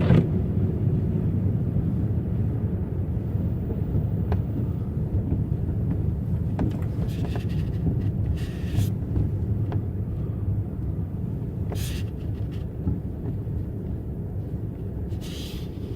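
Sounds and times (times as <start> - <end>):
car rumbling on snowy road: 0.0 - 15.9.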